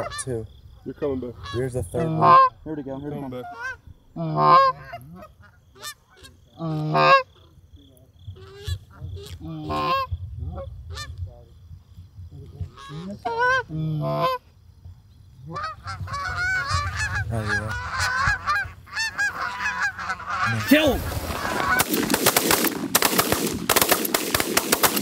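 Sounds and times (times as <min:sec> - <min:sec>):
geese honking: 0:00.0 - 0:07.6, 0:08.3 - 0:11.2, 0:12.5 - 0:14.5, 0:15.3 - 0:25.0.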